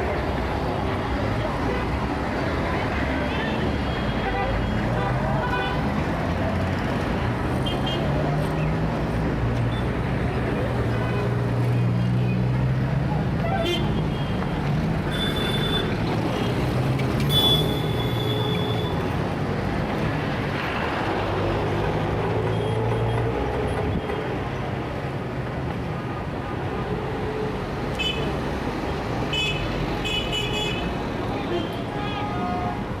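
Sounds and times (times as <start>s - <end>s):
heavy street traffic rumble: 0.0s - 33.0s.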